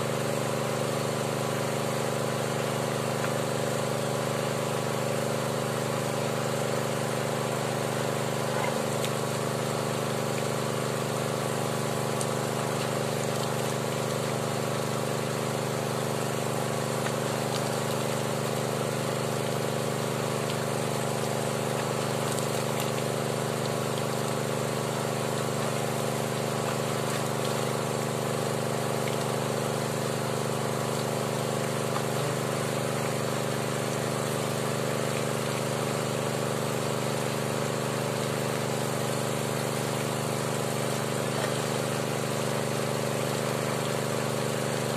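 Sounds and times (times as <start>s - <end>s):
water pump engine running: 0.0s - 44.9s.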